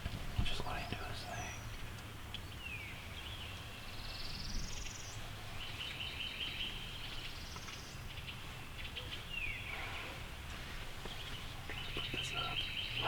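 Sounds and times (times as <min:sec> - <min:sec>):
songbirds singing: 0:00.0 - 0:13.0.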